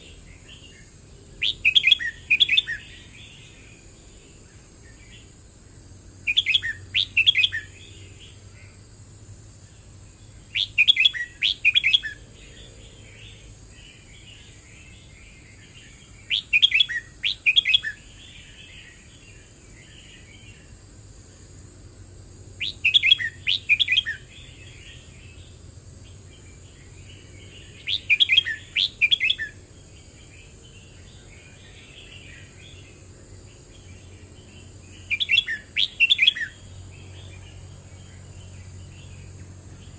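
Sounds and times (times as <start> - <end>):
soft bird twittering: 0.0 - 5.3, 6.2 - 8.8, 9.7 - 20.8, 22.6 - 39.9.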